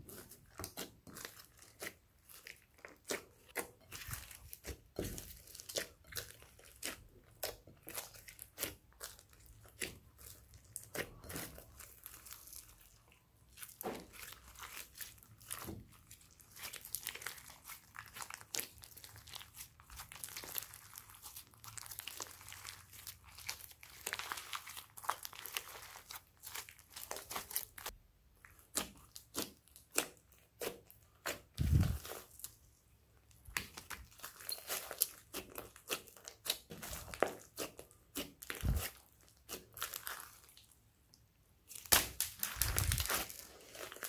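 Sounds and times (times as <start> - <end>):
slime crackling and popping: 0.0 - 32.6, 33.2 - 44.0.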